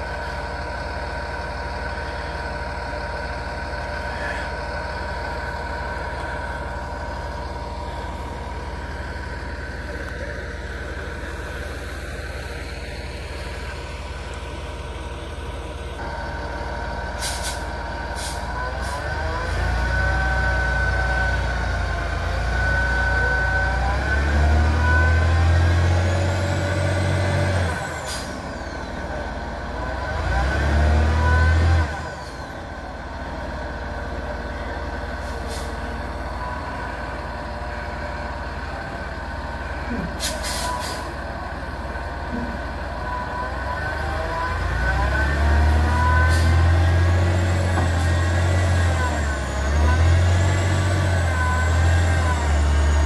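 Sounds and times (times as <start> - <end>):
truck engine revving under load: 0.0 - 53.0.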